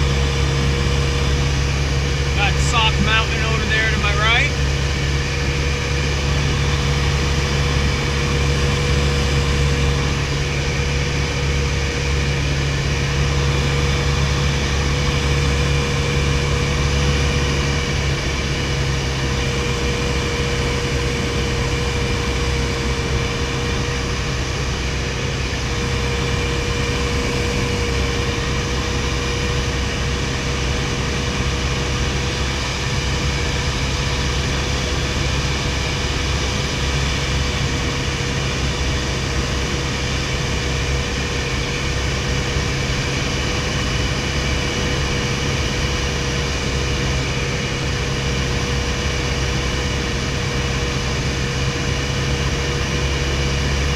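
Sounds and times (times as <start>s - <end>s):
light aircraft engine drone in cabin: 0.0s - 53.9s.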